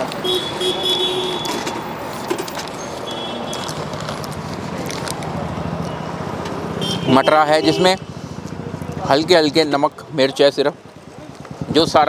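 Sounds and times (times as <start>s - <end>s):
highway traffic hum: 0.0s - 12.0s.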